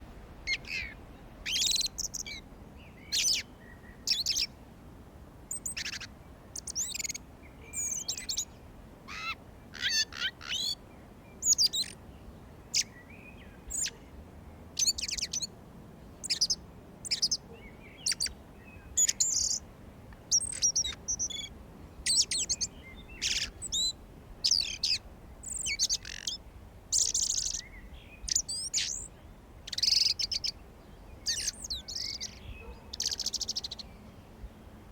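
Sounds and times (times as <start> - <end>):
faint background hiss: 0.0 - 34.9
songbirds singing and chirping: 0.5 - 4.6, 5.5 - 34.9.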